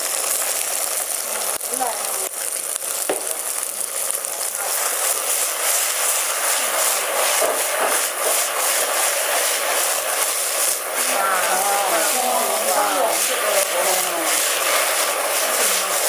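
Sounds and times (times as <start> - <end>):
food sliding in tossed wok: 0.0 - 16.0
mushrooms sizzling in a wok: 0.0 - 16.0.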